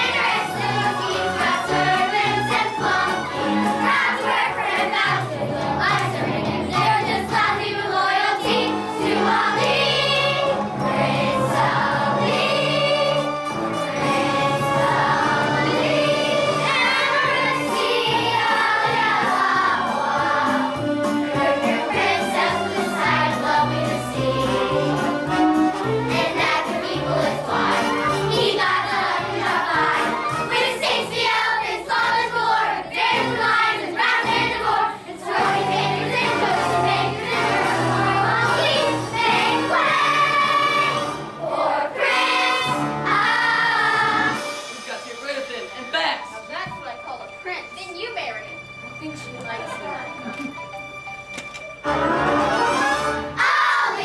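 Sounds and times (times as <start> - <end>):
children's chorus singing: 0.0 - 44.7, 51.8 - 54.0
instrumental accompaniment with bass: 0.0 - 53.5.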